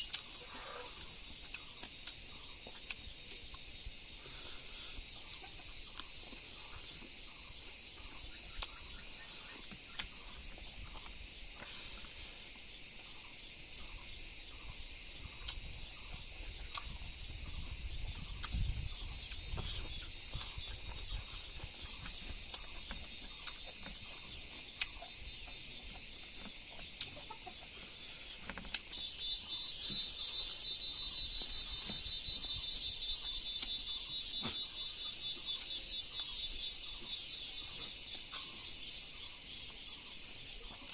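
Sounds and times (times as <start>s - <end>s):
dense insect trill: 0.0s - 40.9s
insects chirping: 0.0s - 40.9s.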